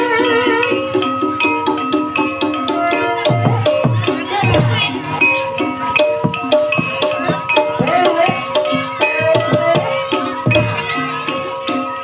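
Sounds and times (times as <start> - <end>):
hand drum strokes: 0.0 - 11.4
ringing metallophone notes: 0.0 - 12.0.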